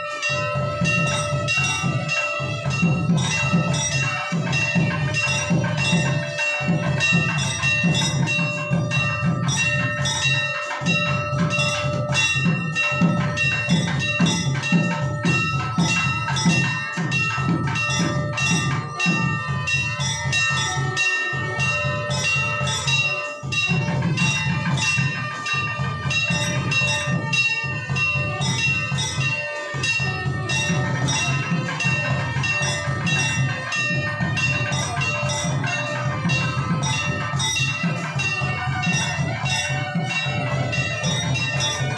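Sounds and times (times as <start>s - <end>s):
temple bells clanging: 0.0s - 41.9s
low drum-like beat: 0.2s - 41.9s.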